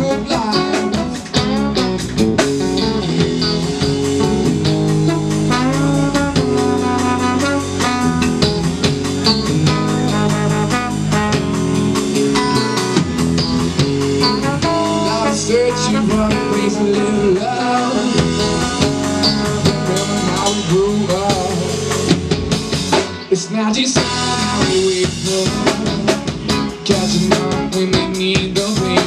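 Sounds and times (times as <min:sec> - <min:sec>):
bass guitar: 0:00.0 - 0:29.0
drum kit beat: 0:00.0 - 0:29.0
electric guitar: 0:00.0 - 0:29.0
trombone sliding notes: 0:00.0 - 0:29.0.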